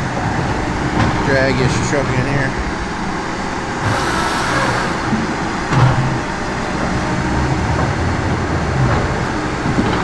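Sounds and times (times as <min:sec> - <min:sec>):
diesel engines running: 0:00.0 - 0:10.0.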